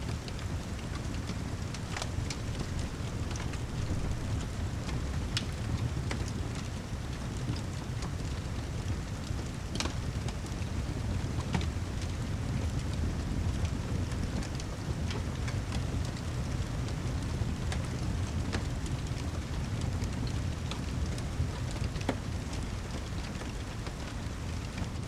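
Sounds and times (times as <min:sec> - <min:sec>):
fireplace crackling and popping: 0:00.0 - 0:25.0
steady rain: 0:00.0 - 0:25.0.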